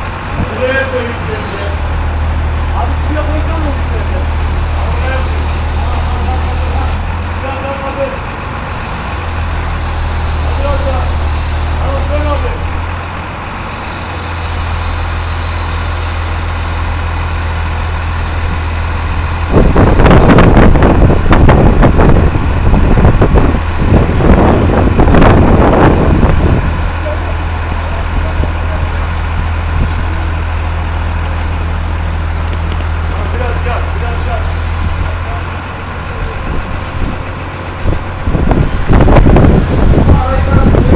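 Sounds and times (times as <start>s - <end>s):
loud rough rushing noise: 0.0s - 40.9s.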